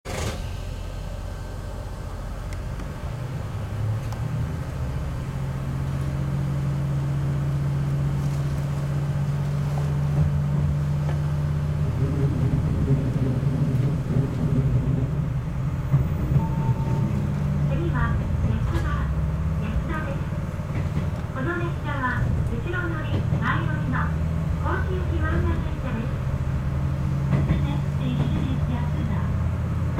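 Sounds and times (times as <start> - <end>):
diesel railcar engine: 0.0 - 29.9.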